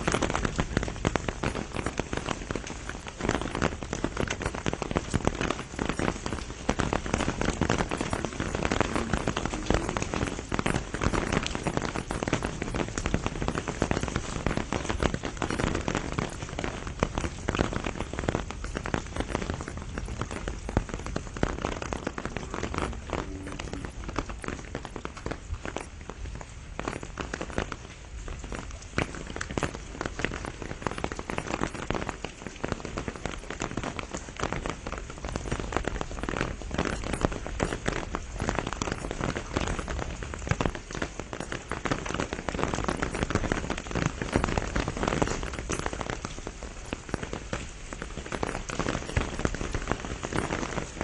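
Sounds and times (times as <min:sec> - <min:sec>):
patter of raindrops close by: 0:00.0 - 0:51.0
rain falling: 0:00.0 - 0:51.0.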